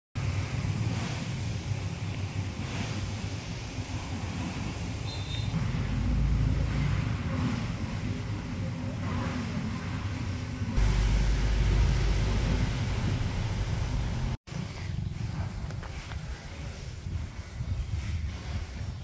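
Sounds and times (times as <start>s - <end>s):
low rumbling noise: 0.2s - 15.6s.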